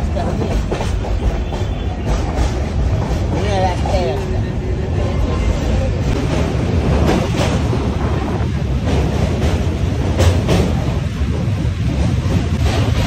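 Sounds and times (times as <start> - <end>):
wheels clacking over rail joints: 0.0 - 4.5, 5.6 - 13.0
train rumbling on track: 0.0 - 13.0.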